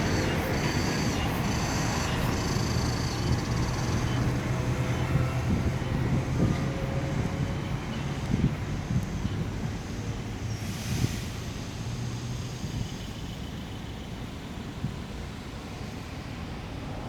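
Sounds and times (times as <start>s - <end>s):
cicadas buzzing in pulses: 0.0s - 16.8s.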